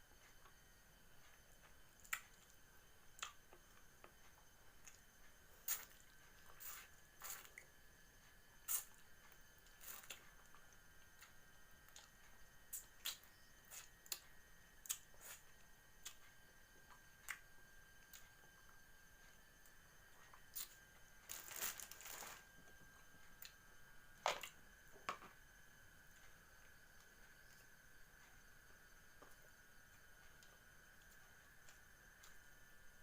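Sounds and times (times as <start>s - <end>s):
faint high tone hum: 0.0s - 33.0s.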